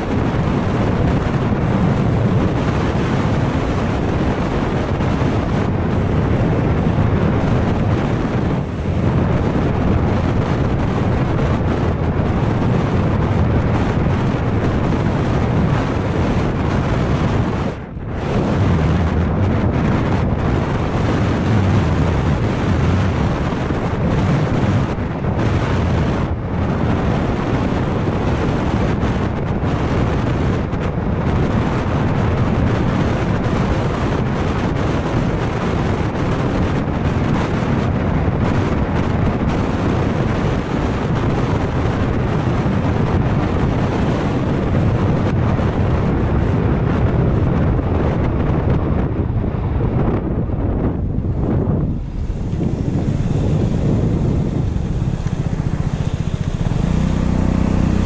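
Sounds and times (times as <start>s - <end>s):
road noise: 0.0s - 58.0s
wind buffeting microphone: 0.0s - 58.0s.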